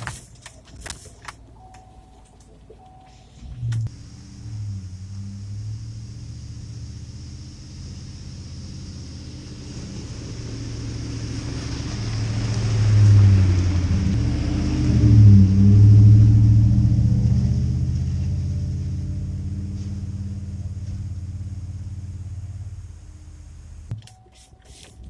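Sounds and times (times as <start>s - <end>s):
pickup truck engine humming: 0.0s - 25.0s.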